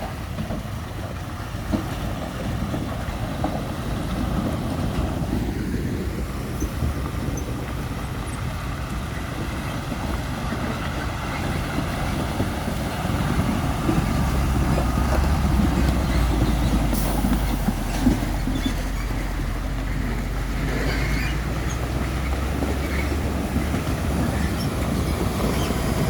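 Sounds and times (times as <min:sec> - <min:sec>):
heavy truck rumbling: 0:00.0 - 0:26.0
road noise: 0:00.0 - 0:26.0.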